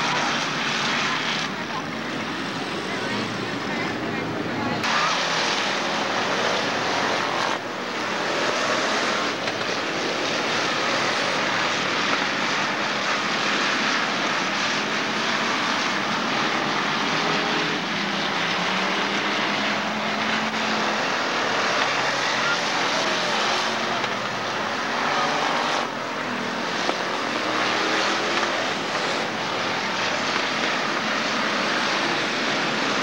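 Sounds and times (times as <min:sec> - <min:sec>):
cars passing by: 0:00.0 - 0:33.0
race car engines droning: 0:00.0 - 0:33.0.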